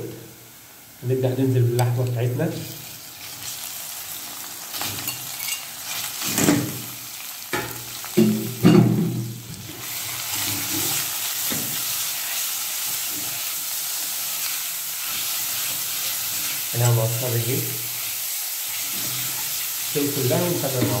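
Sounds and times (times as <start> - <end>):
meat sizzling in a pot: 0.0 - 21.0.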